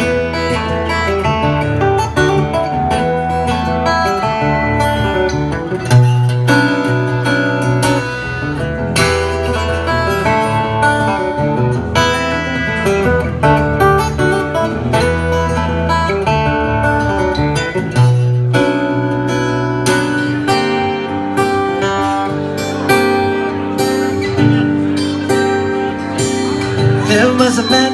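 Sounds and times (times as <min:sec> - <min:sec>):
acoustic guitar: 0:00.0 - 0:27.9.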